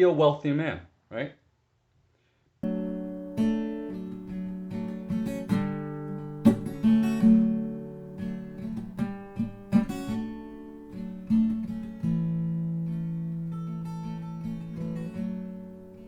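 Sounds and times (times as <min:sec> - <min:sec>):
strummed acoustic guitar chords: 0:02.6 - 0:16.0.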